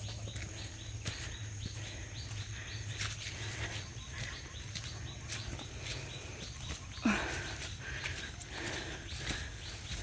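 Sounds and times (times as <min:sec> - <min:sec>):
footsteps on dry leaves: 0:00.0 - 0:10.0.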